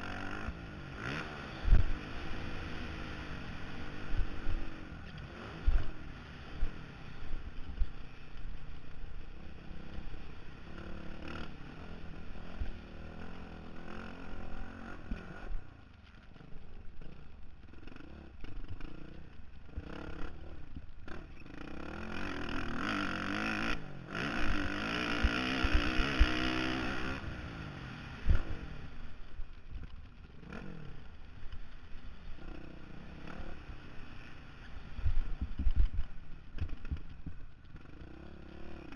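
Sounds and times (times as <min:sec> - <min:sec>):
dirt bike engine revving: 0:00.0 - 0:15.8, 0:16.4 - 0:38.9.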